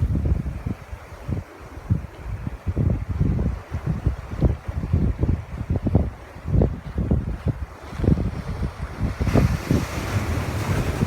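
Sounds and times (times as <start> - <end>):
ocean waves: 0.0 - 11.0
wind buffeting microphone: 0.0 - 11.0.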